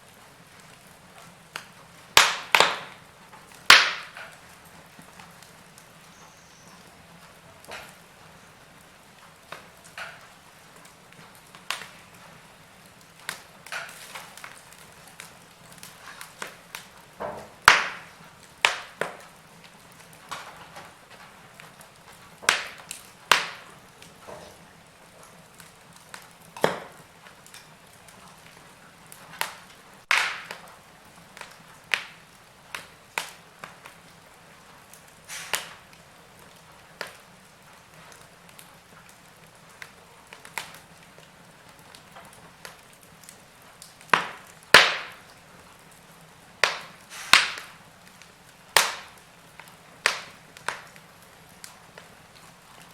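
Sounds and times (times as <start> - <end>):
faint steady hiss: 0.0 - 52.9
wood fire crackling: 0.0 - 52.9.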